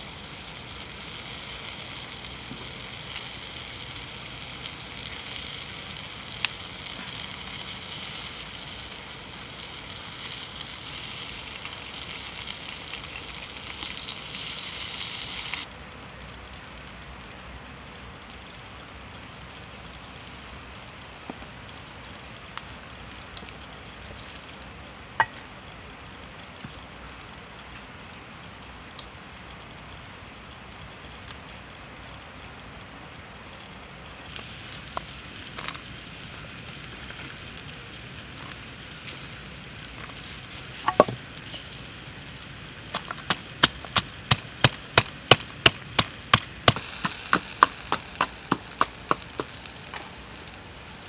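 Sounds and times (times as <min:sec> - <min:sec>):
meat sizzling on hot stone: 0:00.0 - 0:51.0.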